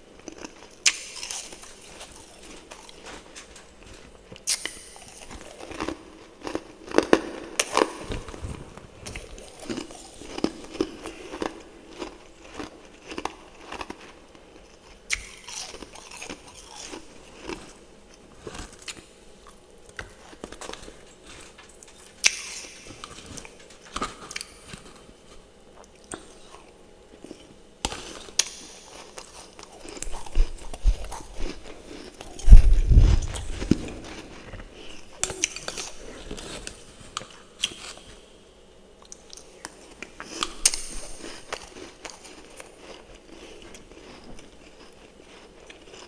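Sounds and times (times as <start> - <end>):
chewing crunchy ice: 0.2 - 38.3, 39.0 - 46.0.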